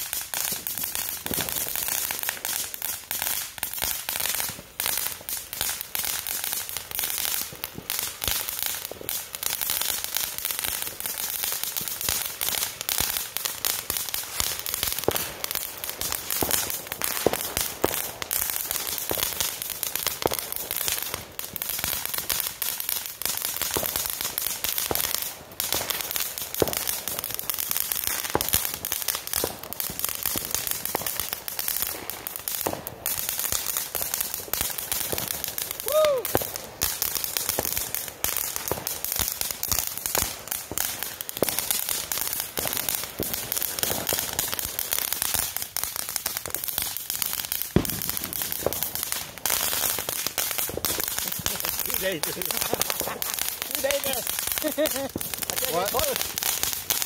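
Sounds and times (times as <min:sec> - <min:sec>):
firework fountain hissing and crackling: 0:00.0 - 0:57.0.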